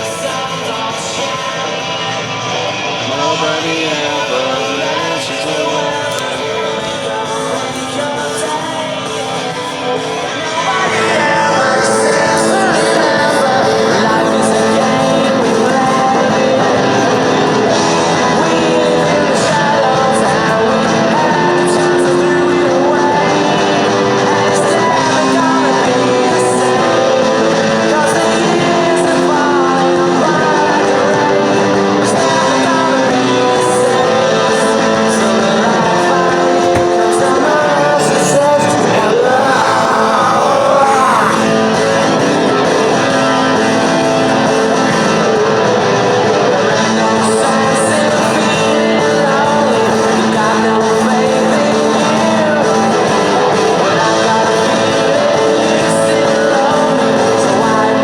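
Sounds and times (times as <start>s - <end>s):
person singing: 0.0s - 45.6s, 46.4s - 58.0s
rock band with electric guitars: 0.0s - 58.0s.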